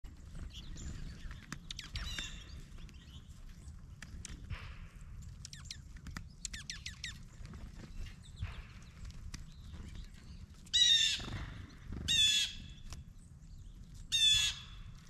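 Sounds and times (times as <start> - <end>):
small birds calling: 0.1 - 15.0.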